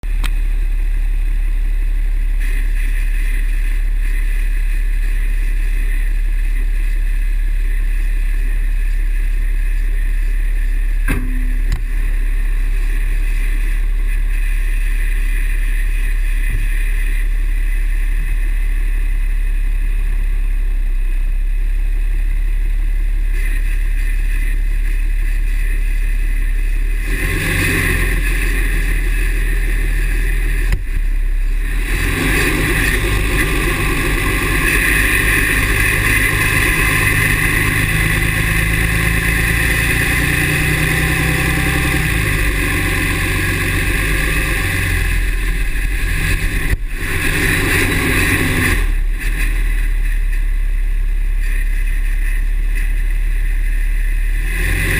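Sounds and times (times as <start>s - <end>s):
diesel engine drone: 0.0s - 54.9s
engine knock: 0.0s - 54.9s.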